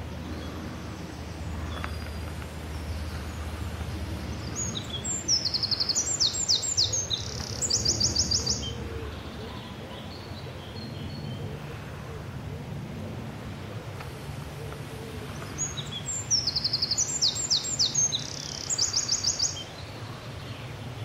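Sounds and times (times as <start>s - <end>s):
songbird singing: 0.0s - 12.7s, 13.3s - 21.0s
low outdoor background rumble: 0.0s - 21.0s.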